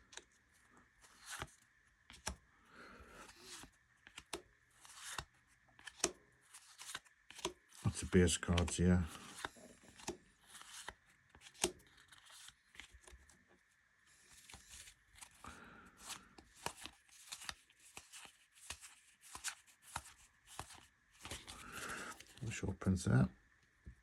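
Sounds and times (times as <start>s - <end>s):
trading cards being flipped: 1.0s - 2.4s, 3.1s - 13.4s, 14.2s - 15.4s, 16.0s - 22.4s.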